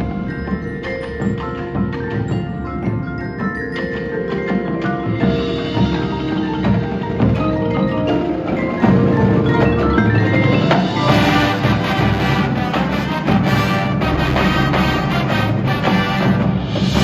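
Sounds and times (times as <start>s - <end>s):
mallet percussion: 0.0s - 17.0s
marching band playing: 0.0s - 17.0s.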